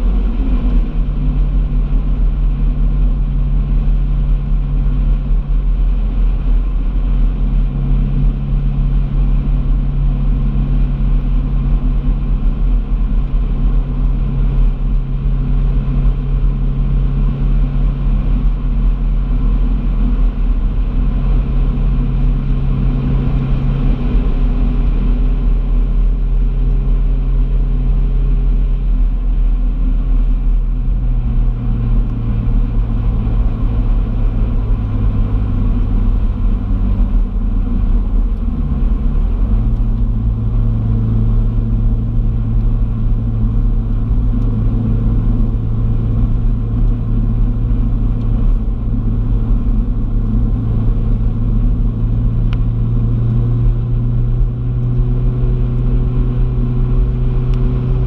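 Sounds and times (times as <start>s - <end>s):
car engine drone: 0.0s - 58.0s
road rumble: 0.0s - 58.0s.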